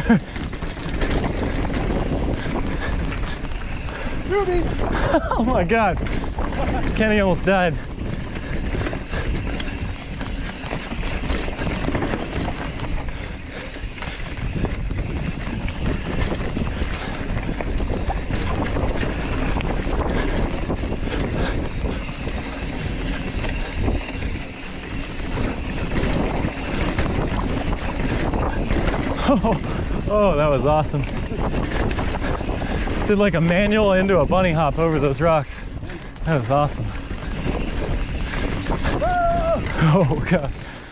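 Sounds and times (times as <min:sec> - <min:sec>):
bike tyre rumble on rocky trail: 0:00.0 - 0:40.9
wind noise on microphone: 0:00.0 - 0:40.9.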